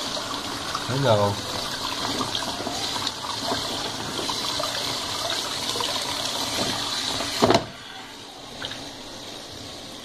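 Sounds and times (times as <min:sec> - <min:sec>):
tap water running and splashing: 0:00.0 - 0:10.0.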